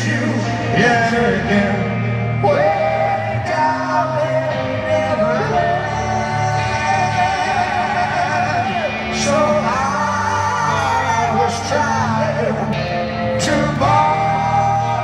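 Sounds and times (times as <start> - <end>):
live rock band: 0.0 - 15.0
man singing long notes: 0.0 - 15.0.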